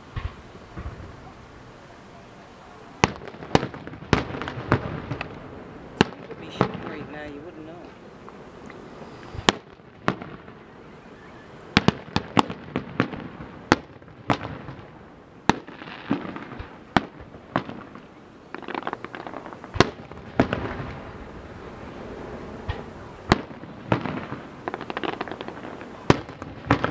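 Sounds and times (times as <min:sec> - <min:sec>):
fireworks bangs: 0:00.0 - 0:26.9
fireworks crackling: 0:00.0 - 0:26.9.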